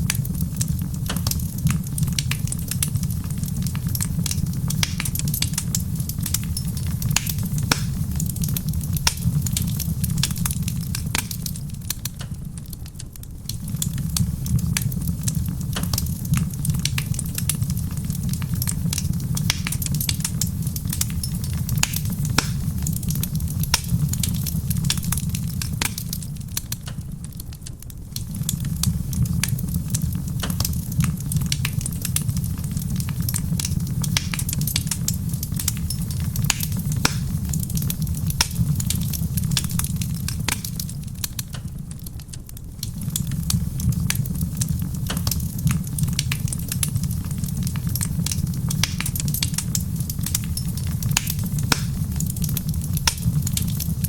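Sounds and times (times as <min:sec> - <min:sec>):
fire pops and snaps: 0:00.0 - 0:54.0
wood fire crackling: 0:00.0 - 0:54.0.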